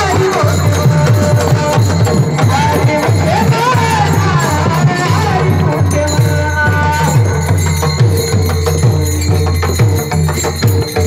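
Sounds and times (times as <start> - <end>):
hand drum beating fast rhythm: 0.0 - 11.0
small hand cymbals jingling: 0.0 - 11.0.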